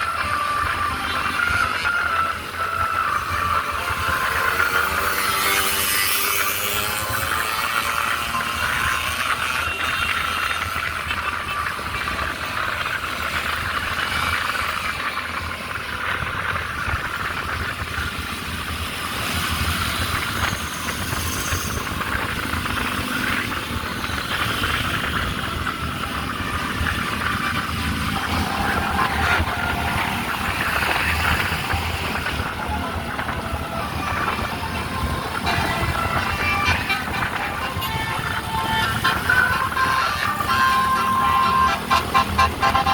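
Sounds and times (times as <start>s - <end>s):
road traffic noise: 0.0s - 42.9s.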